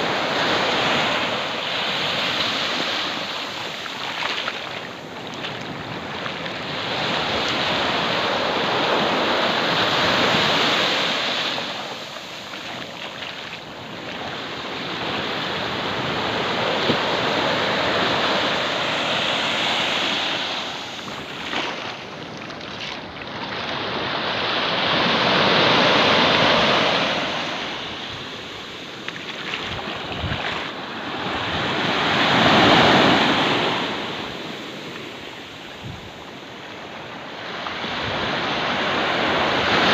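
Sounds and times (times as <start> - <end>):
waves breaking on sandy shore: 0.0 - 39.9.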